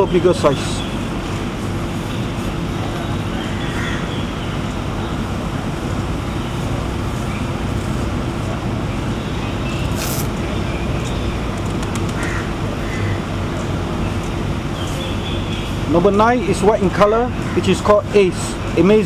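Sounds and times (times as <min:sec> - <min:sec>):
faint constant hum: 0:00.0 - 0:19.0
road traffic rumble: 0:00.0 - 0:19.0.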